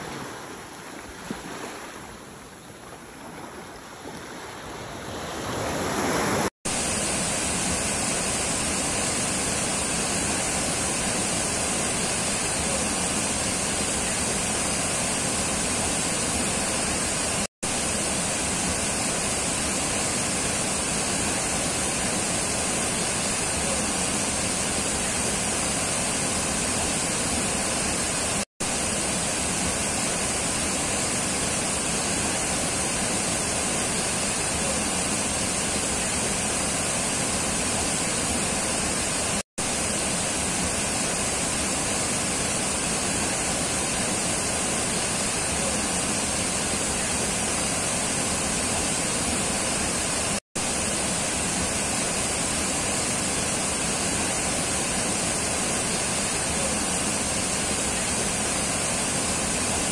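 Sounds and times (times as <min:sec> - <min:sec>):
surf washing on a beach: 0:00.0 - 0:59.9
water rushing over rocks: 0:03.0 - 0:59.9.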